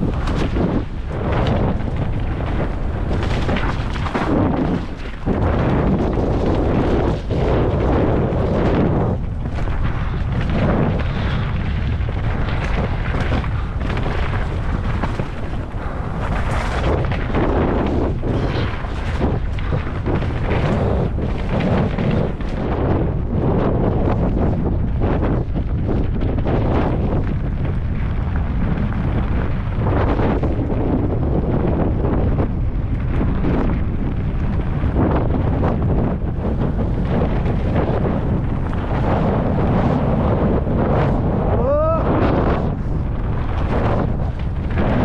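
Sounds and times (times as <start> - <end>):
bike rattling over rough ground: 0.0 - 45.0
wind buffeting microphone: 0.0 - 45.0.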